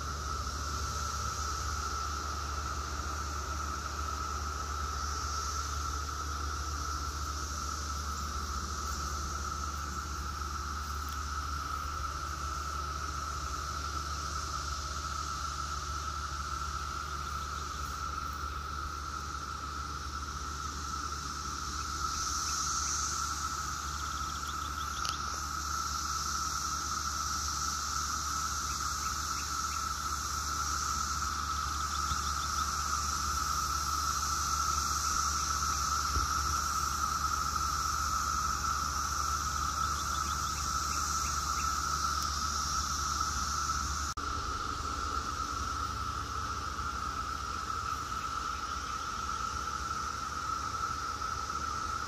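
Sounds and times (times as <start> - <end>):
cicadas droning: 0.0 - 52.0.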